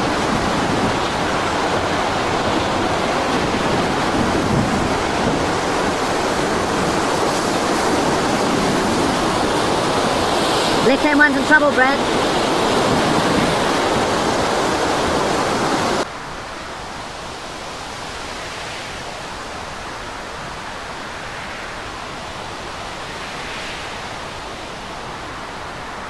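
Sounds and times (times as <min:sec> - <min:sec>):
storm wind: 0:00.0 - 0:26.0.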